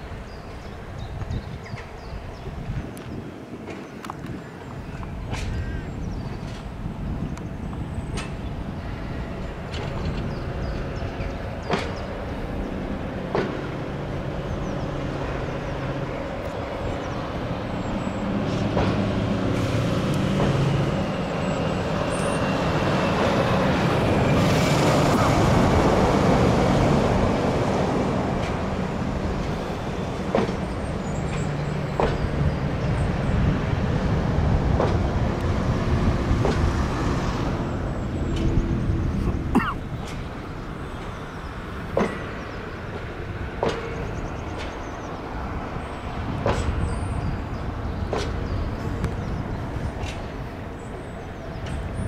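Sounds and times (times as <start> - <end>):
diesel train passing: 0.0 - 52.0.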